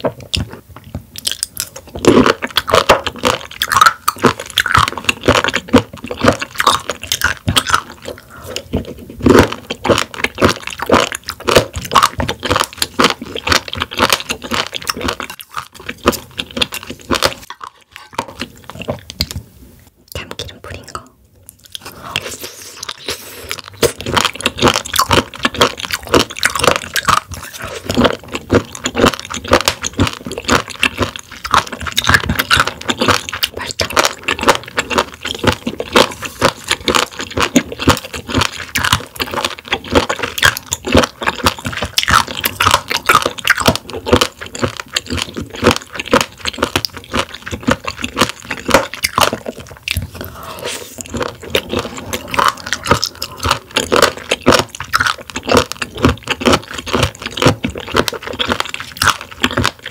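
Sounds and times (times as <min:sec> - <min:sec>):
close chewing crunches: 0:00.0 - 0:19.4, 0:21.5 - 0:59.9.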